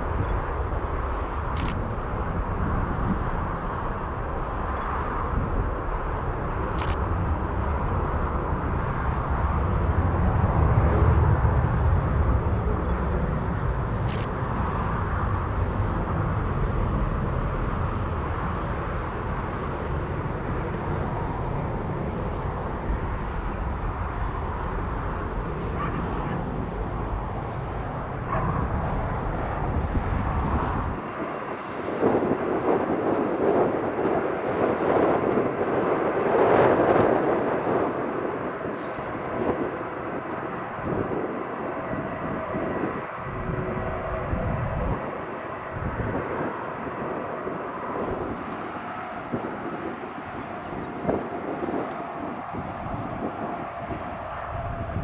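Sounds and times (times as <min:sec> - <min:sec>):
aircraft engine noise: 0:00.0 - 0:55.0
wind buffeting microphone: 0:00.0 - 0:55.0.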